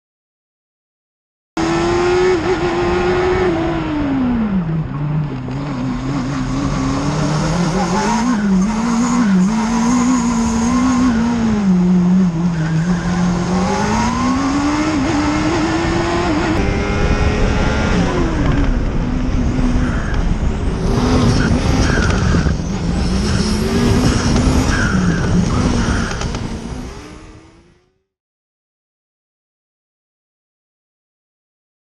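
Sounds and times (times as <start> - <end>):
race car engine revving: 1.6 - 28.1.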